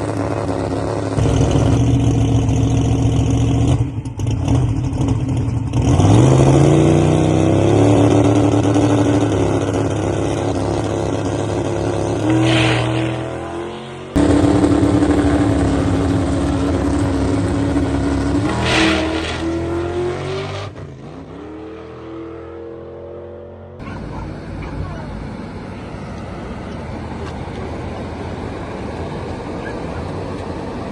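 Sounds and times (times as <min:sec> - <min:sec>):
car engine accelerating: 0:00.0 - 0:30.9.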